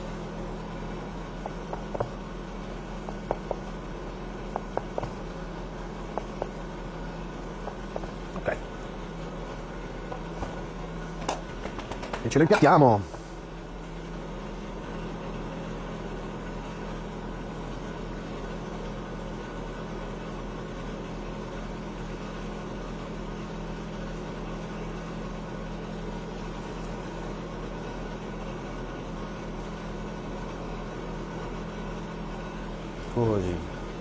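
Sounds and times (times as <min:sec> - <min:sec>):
low machine hum with hiss: 0:00.0 - 0:34.0.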